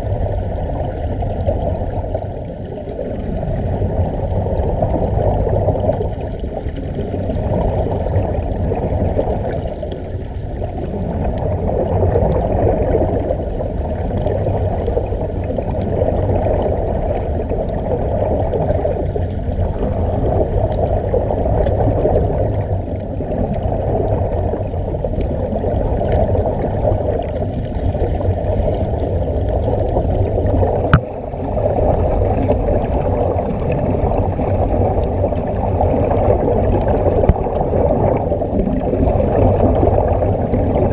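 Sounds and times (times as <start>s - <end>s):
underwater air bubbling: 0.0s - 40.9s.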